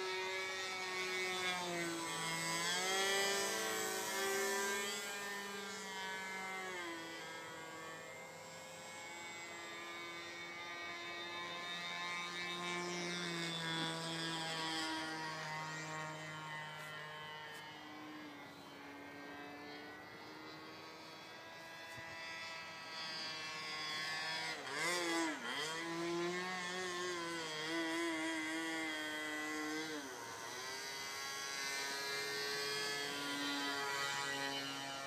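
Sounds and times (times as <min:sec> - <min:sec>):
model airplane engine drone: 0:00.0 - 0:35.0.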